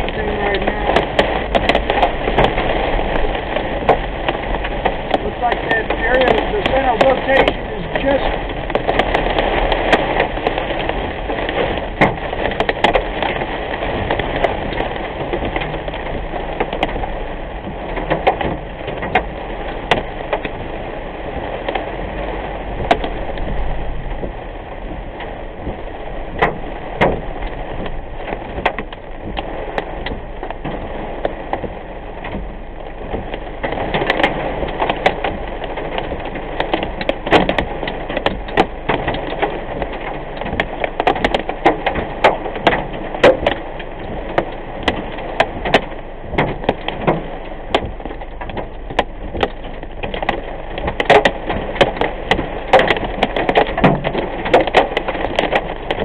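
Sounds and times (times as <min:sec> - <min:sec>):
heavy rain on a car: 0:00.0 - 0:56.0
rain taps on windshield and roof: 0:00.0 - 0:56.0
road noise: 0:00.0 - 0:56.0.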